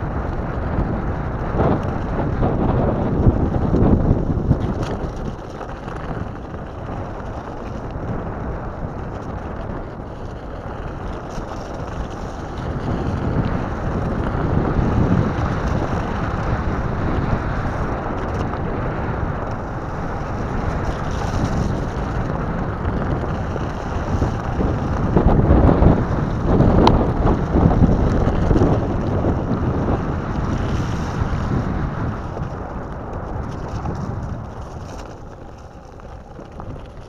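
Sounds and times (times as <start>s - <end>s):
skateboard tyres rolling on gravel: 0.0s - 37.0s
wind buffeting microphone: 0.0s - 37.0s.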